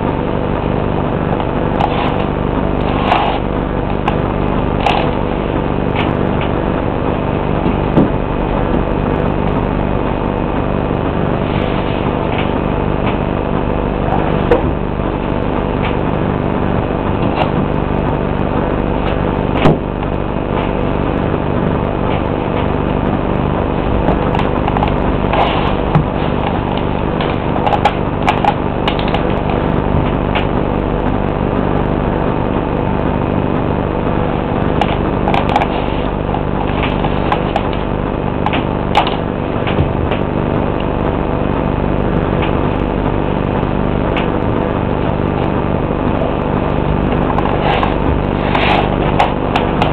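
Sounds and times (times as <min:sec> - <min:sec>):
steady hum of even tones: 0:00.0 - 0:49.9.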